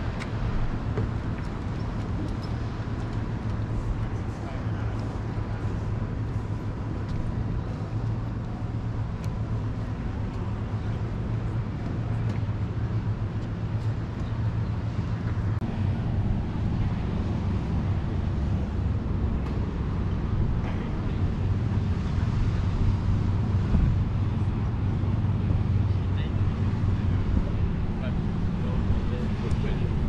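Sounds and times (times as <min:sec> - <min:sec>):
city low rumble: 0:00.0 - 0:30.0.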